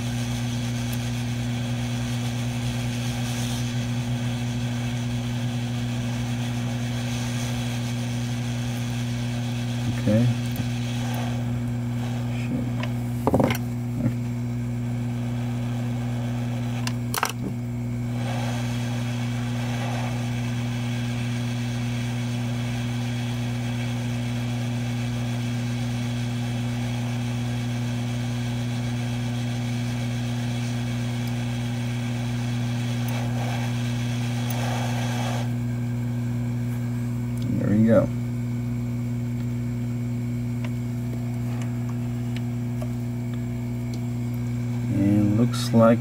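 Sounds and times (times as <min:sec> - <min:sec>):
hot air blower hissing: 0:00.0 - 0:46.0
steady electrical hum: 0:00.0 - 0:46.0.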